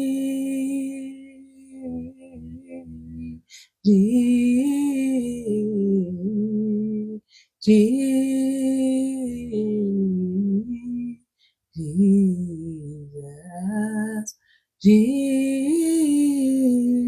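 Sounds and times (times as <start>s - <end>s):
person singing slow melody: 0.0s - 11.2s, 11.8s - 17.0s.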